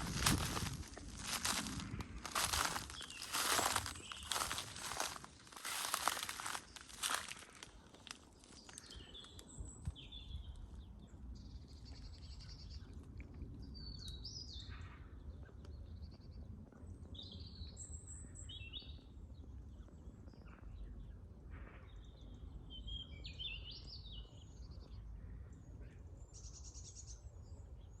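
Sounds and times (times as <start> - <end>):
small birds singing and calling: 0.0 - 28.0.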